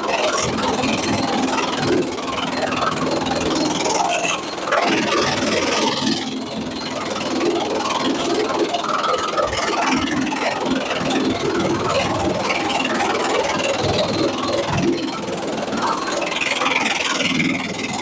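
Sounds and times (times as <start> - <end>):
sawmill machinery rattling and whirring: 0.0 - 18.0.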